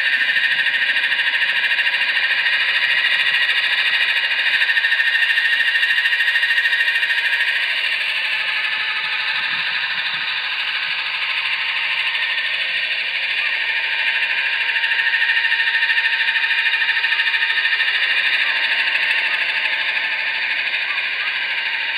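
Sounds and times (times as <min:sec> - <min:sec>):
electric motor high whine: 0:00.0 - 0:21.9
rotor blades buzzing: 0:00.0 - 0:21.9.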